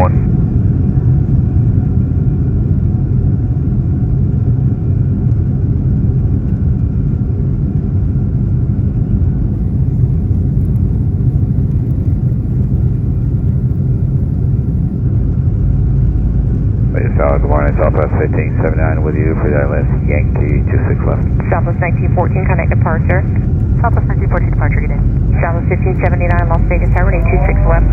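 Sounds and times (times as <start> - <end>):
airplane cabin engine rumble: 0.0 - 27.9.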